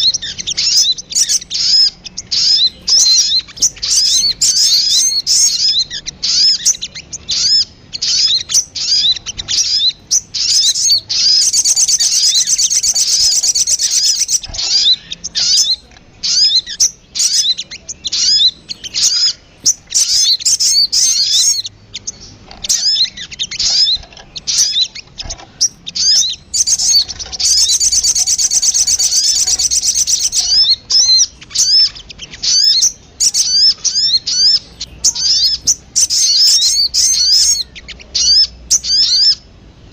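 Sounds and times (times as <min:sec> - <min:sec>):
bird fast trill: 0:00.0 - 0:39.6
bird chirping: 0:00.0 - 0:39.9.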